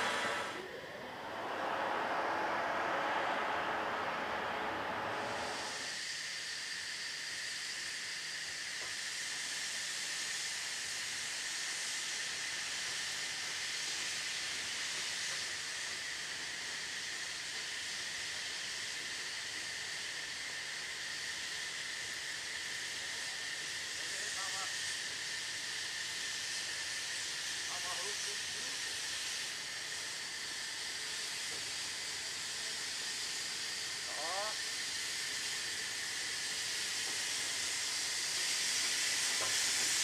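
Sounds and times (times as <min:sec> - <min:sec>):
steam hissing from locomotive: 0:00.0 - 0:40.0.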